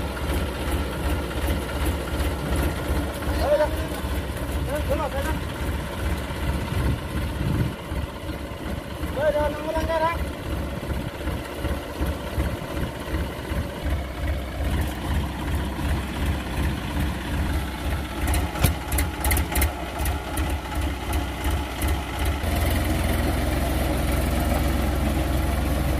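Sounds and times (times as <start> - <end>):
tractor diesel engine: 0.0 - 25.9.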